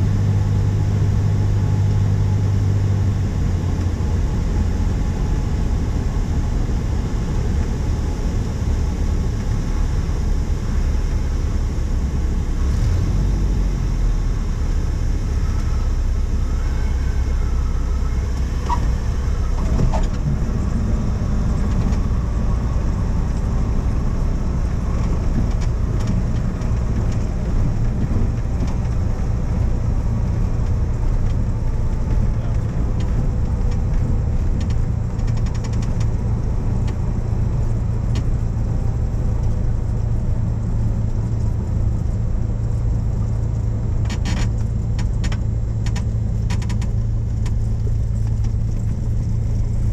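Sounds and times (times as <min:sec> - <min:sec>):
light plane engine drone: 0:00.0 - 0:49.9.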